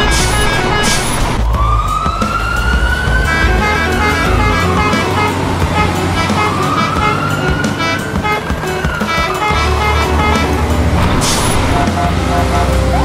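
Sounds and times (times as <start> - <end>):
music with short repeated notes: 0.0 - 13.0
siren wailing: 0.0 - 13.0.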